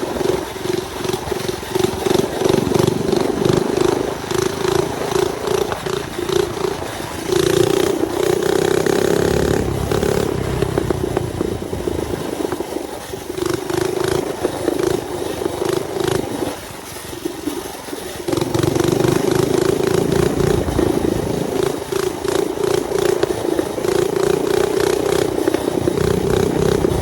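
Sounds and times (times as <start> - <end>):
mini bike engine running: 0.0 - 27.0.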